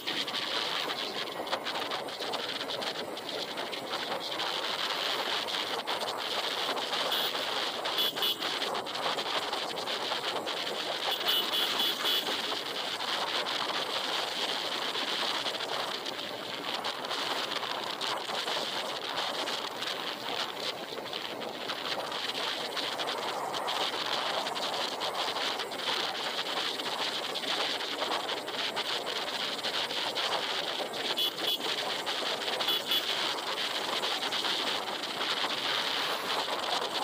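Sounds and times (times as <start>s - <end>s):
vehicle and road noise: 0.0s - 37.0s
wind rush on microphone: 0.0s - 37.0s.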